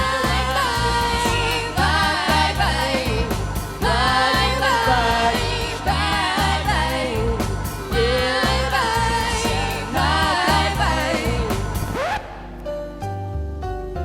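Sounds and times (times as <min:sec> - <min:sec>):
vocal ensemble singing in harmony: 0:00.0 - 0:12.5
backing track with bass line: 0:00.0 - 0:14.0.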